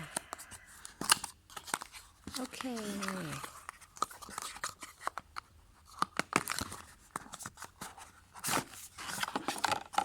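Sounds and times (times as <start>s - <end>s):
cardboard and plastic packaging handled: 0.0s - 10.0s.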